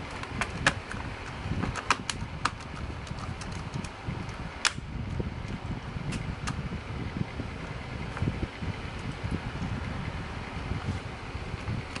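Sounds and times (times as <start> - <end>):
low rumbling handling noise: 0.0 - 12.0.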